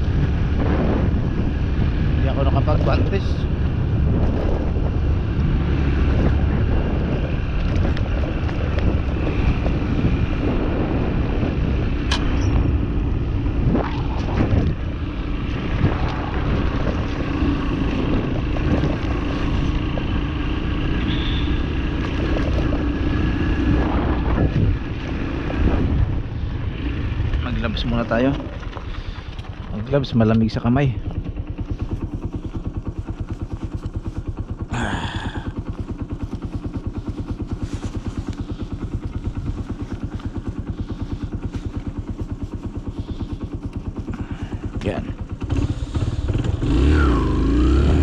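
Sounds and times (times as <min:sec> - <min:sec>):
motorbike engine running: 0:00.0 - 0:48.0
wind buffeting microphone: 0:00.0 - 0:48.0.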